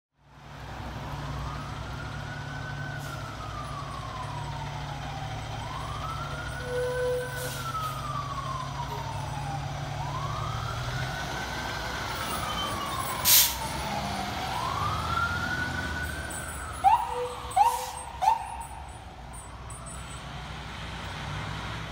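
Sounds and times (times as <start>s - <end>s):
fire engine rumbling: 0.2s - 21.9s
fire engine siren wailing: 0.4s - 21.9s.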